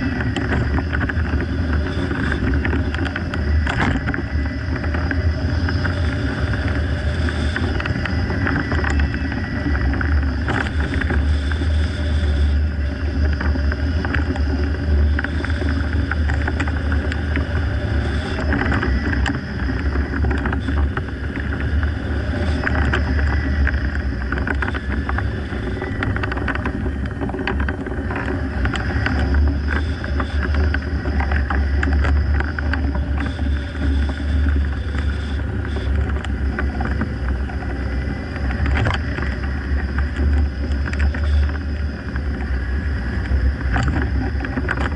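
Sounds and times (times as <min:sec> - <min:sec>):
wind rushing over microphone: 0:00.0 - 0:44.9.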